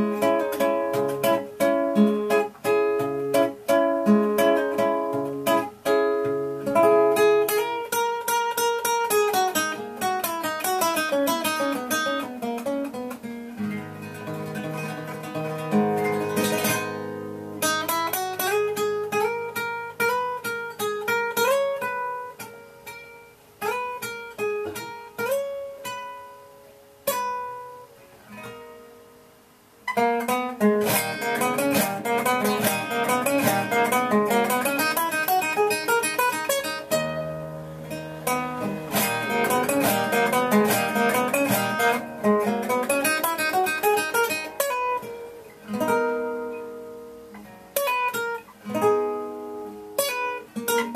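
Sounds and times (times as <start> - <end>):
classical guitar playing: 0.0 - 50.9.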